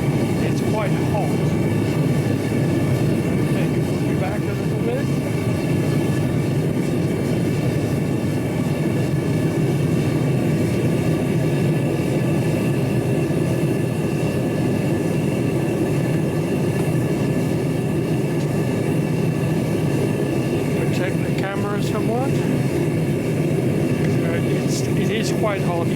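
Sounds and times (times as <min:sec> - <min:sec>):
forge running steadily: 0:00.0 - 0:25.9.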